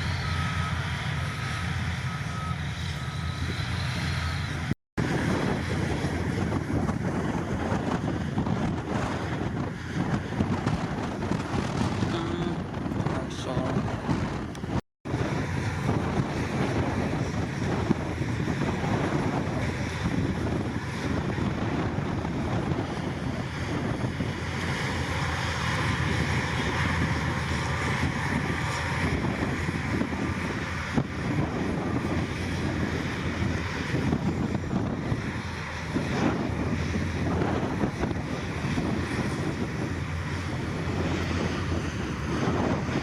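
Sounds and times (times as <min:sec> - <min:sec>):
heavy diesel machinery running: 0:00.0 - 0:43.0
wind noise on microphone: 0:00.0 - 0:43.0.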